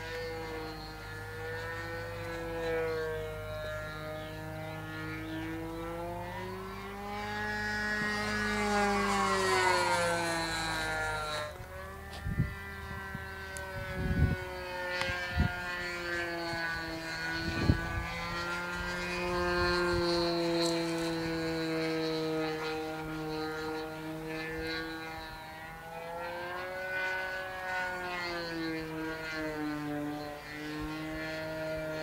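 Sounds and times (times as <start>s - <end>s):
model plane engine buzzing: 0.0s - 32.0s.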